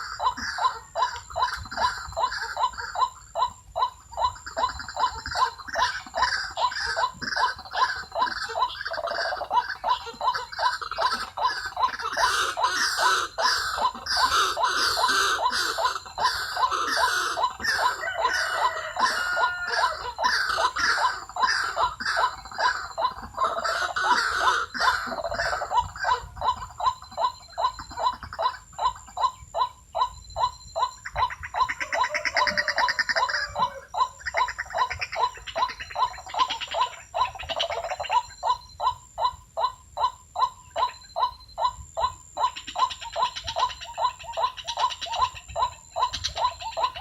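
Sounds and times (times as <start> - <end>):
bird cackling calls: 0.0 - 47.0.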